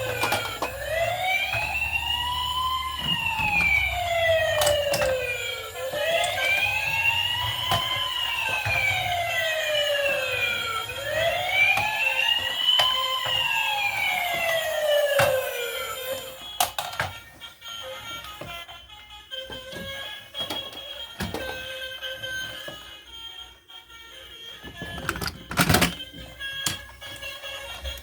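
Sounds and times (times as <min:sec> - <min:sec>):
toy siren wailing: 0:00.0 - 0:28.0.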